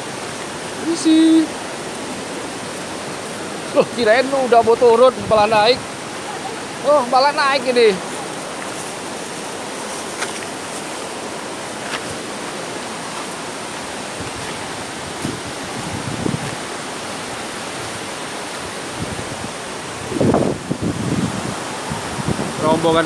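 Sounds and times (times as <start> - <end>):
river running over rocks: 0.0 - 23.0
waterfall roar: 0.0 - 23.0.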